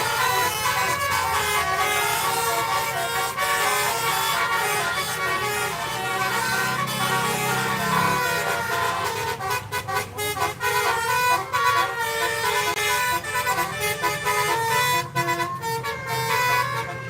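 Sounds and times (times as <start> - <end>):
multi-tone air horn melody: 0.0 - 17.0.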